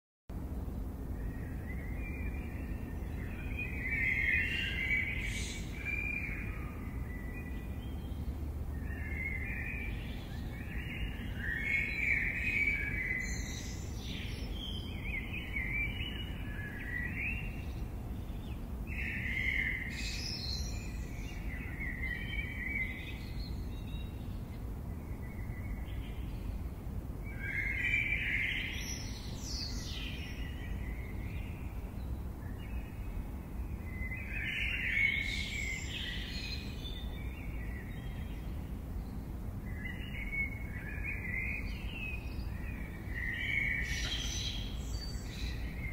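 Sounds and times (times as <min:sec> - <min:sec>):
birds singing: 0:00.4 - 0:45.9.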